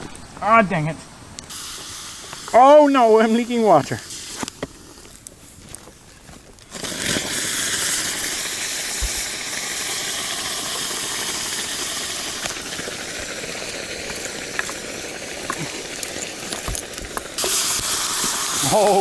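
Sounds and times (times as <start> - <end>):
hot stones hissing in water: 1.4 - 19.0.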